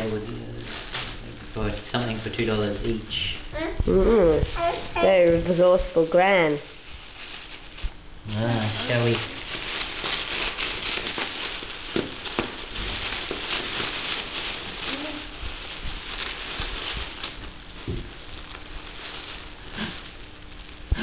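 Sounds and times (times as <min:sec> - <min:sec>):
wrapping paper rustling: 0:00.0 - 0:03.0, 0:03.6 - 0:21.0.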